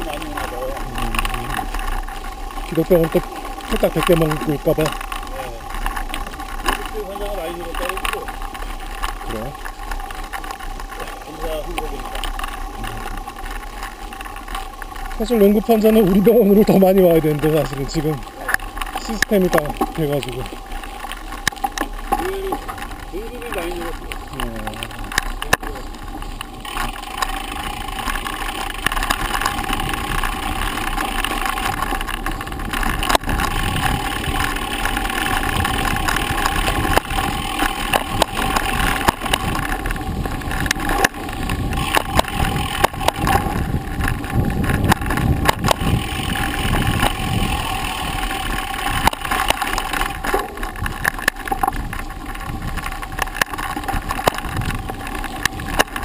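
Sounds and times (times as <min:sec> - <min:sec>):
bike rolling rumble and rattle: 0:00.0 - 0:56.0.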